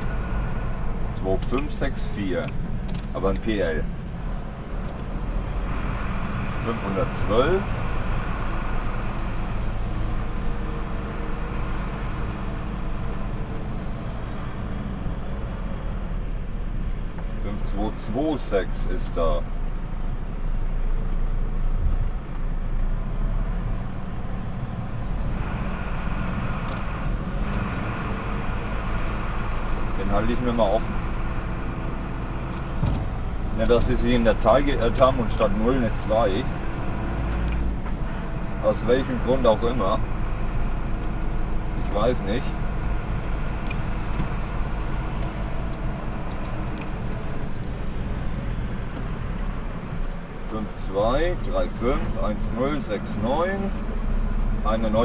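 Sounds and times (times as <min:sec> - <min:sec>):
diesel engine rumble: 0:00.0 - 0:55.0
road noise: 0:00.0 - 0:55.0.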